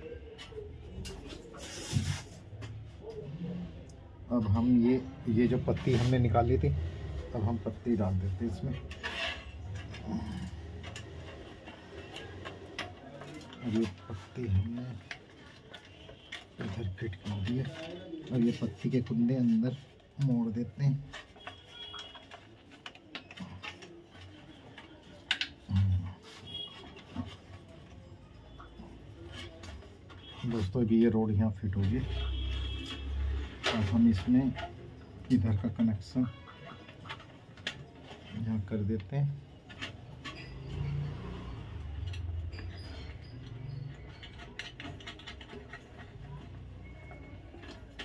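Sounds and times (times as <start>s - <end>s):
metal parts clicking and tapping: 5.5s - 28.0s, 28.6s - 48.0s.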